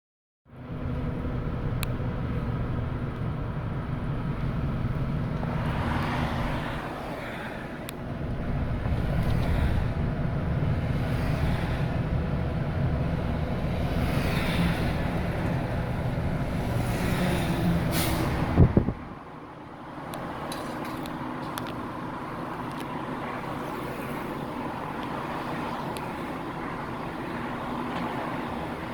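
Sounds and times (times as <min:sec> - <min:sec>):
heavy trucks driving past: 0:00.5 - 0:28.9.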